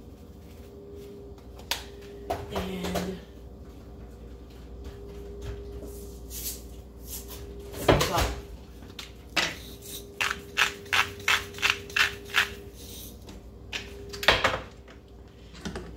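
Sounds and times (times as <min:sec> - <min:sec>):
faint steady hum: 0:00.0 - 0:15.9.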